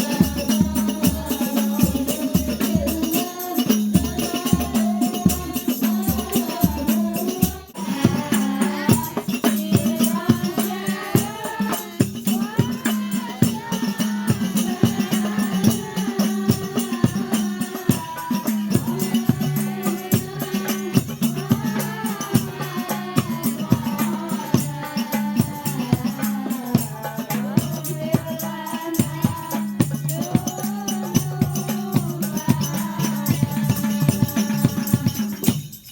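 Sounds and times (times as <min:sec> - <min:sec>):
frame drums rhythm: 0:00.0 - 0:35.9
jingling percussion: 0:00.0 - 0:35.9
voices singing: 0:00.0 - 0:35.9.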